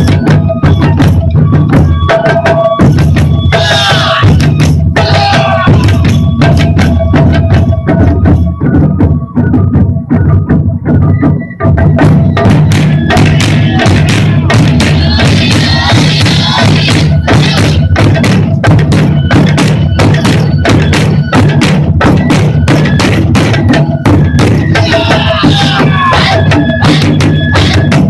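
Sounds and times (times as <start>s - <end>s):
taiko drum ensemble playing: 0.0s - 28.0s.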